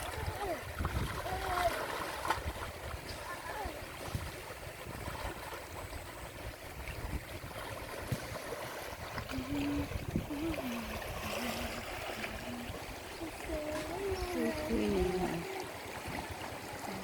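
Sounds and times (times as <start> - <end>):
stream running water: 0.0 - 17.0.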